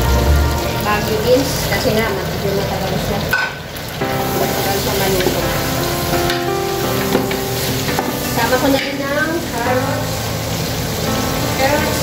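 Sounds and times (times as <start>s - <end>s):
background music of held notes: 0.0s - 2.0s, 4.0s - 12.0s
food sizzling in a pan: 0.0s - 12.0s.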